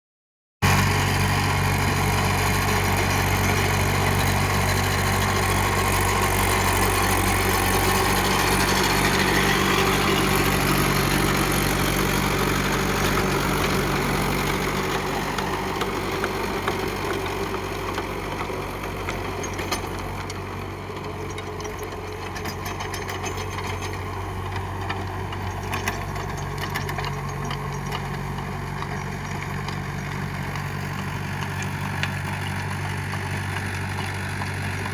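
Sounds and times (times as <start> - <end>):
tractor diesel engine running: 0.6 - 34.9.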